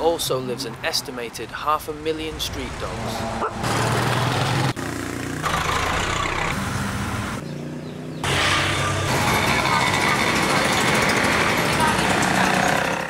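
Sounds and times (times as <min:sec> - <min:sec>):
road noise: 0:00.0 - 0:13.0
vehicle engines running: 0:00.0 - 0:13.0.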